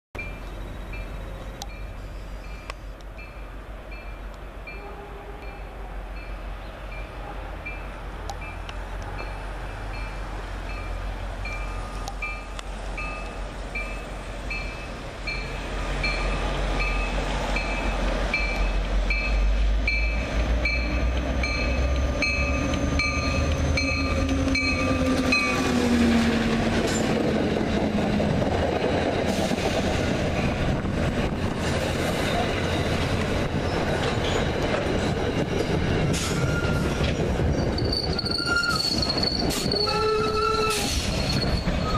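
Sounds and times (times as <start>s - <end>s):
diesel locomotive rumble: 5.3s - 41.9s
train wheels on rails: 5.4s - 41.9s.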